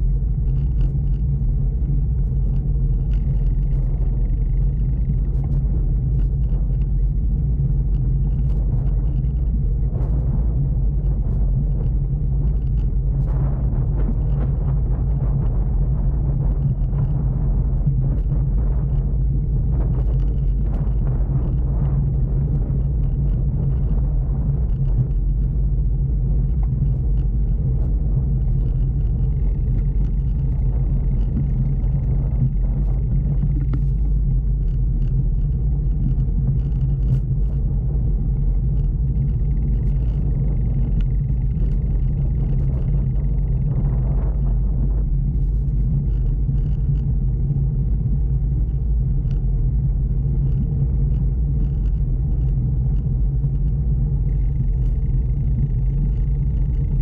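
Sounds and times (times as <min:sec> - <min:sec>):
bicycle rolling on wooden boardwalk: 0:00.0 - 0:57.0.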